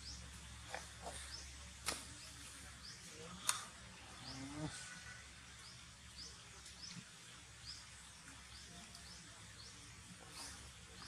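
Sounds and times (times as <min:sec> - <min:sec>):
forest ambience: 0:00.0 - 0:11.0.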